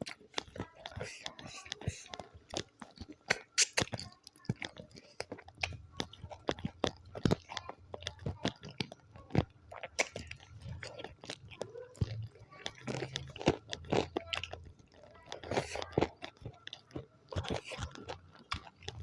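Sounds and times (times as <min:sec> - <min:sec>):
chewing and crunching food: 0:00.0 - 0:19.0
wet mouth clicks: 0:00.0 - 0:19.0.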